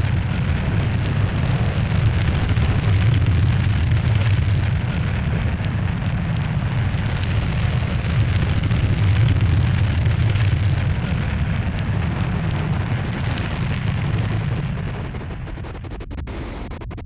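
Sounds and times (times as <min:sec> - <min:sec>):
low rumbling roar: 0:00.0 - 0:17.0.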